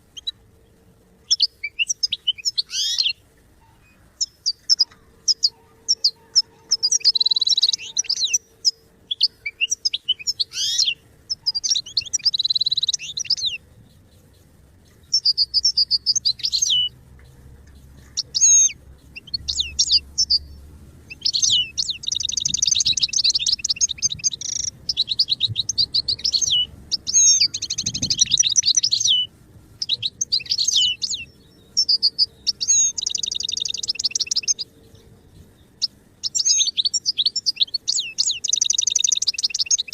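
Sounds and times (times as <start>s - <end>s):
goldfinch singing: 0.0s - 0.4s, 1.2s - 39.9s.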